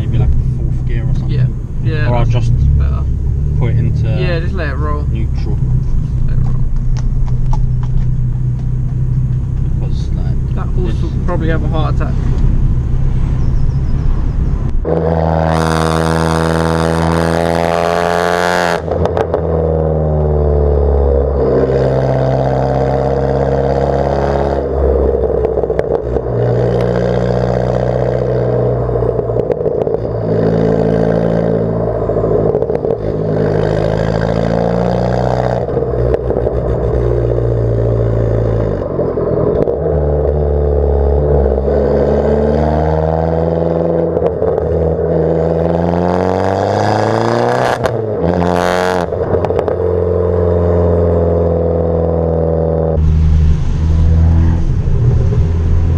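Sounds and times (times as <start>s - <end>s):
harsh exhaust blast: 0.0s - 55.9s
loud car engine: 0.0s - 55.9s.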